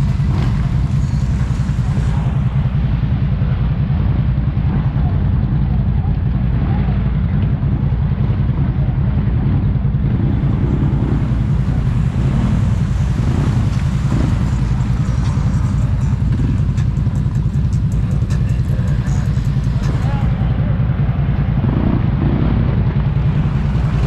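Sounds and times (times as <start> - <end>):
atv engine running: 0.0 - 24.0
wind noise on microphone: 0.0 - 24.0.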